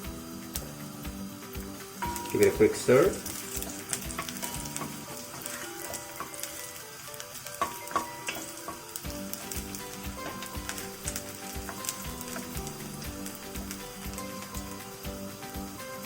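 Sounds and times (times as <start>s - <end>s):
garlic sizzling in hot oil: 0.0s - 16.0s.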